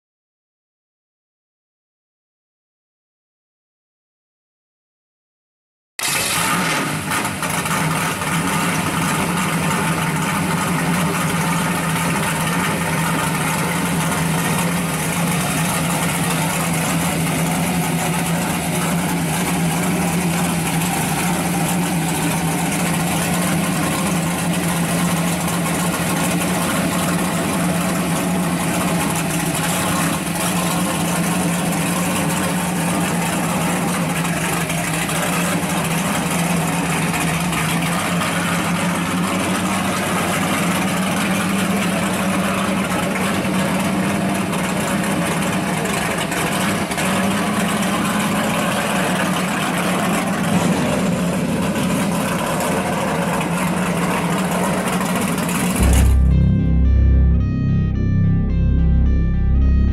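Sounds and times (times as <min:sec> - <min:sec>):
car engine idling: 0:06.0 - 0:59.9.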